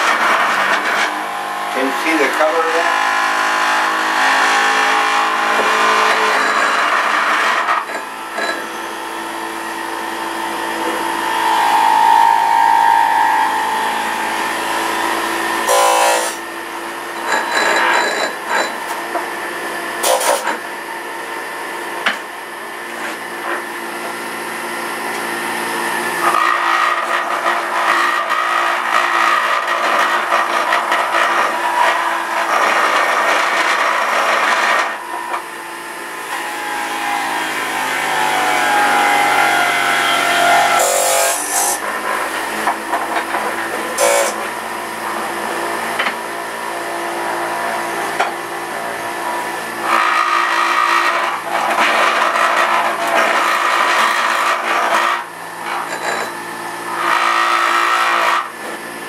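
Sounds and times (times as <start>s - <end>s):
electric juicer motor running: 0.0s - 59.0s.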